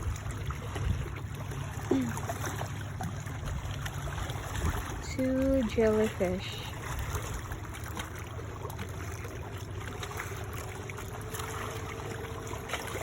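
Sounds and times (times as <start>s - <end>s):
seawater lapping and trickling: 0.0s - 13.0s.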